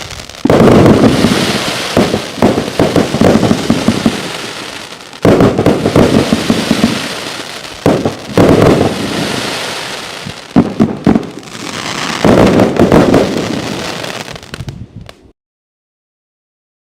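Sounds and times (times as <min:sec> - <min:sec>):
fireworks banging and crackling: 0:00.0 - 0:15.2.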